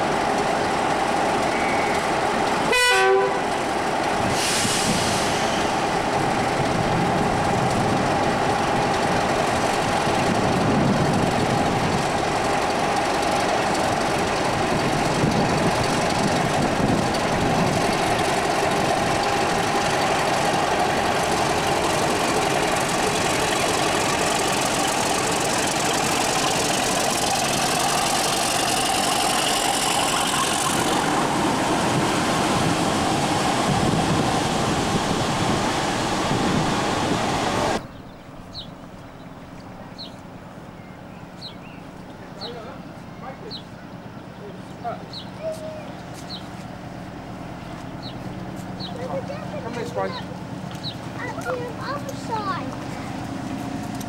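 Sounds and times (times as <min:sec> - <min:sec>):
diesel locomotive engines idling: 0:00.0 - 0:54.0.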